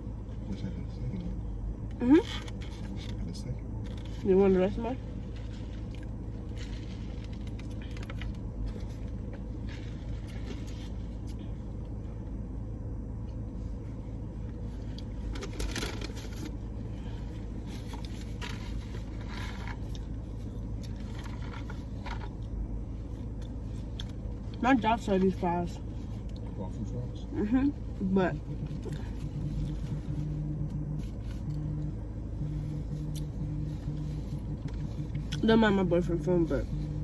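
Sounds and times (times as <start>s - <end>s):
car cabin engine hum: 0.0s - 37.0s.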